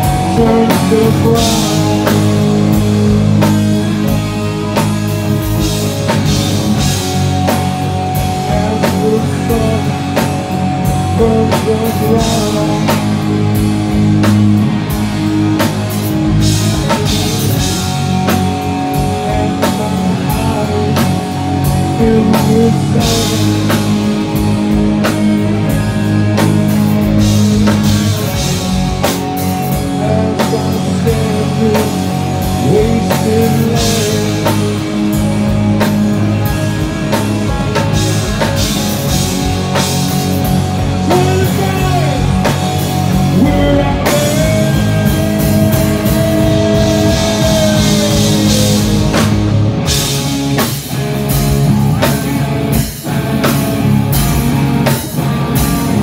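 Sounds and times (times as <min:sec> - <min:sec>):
person singing: 0:00.0 - 0:13.6, 0:16.7 - 0:24.4, 0:25.6 - 0:50.0
drum kit: 0:00.0 - 0:56.0
electric guitar: 0:00.0 - 0:56.0
keyboards: 0:00.0 - 0:56.0.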